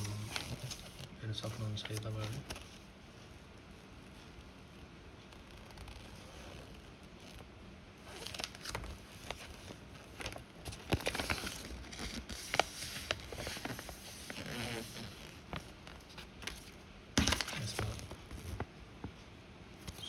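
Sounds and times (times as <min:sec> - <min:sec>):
paper packaging rustling: 0:00.0 - 0:02.9, 0:05.6 - 0:19.2.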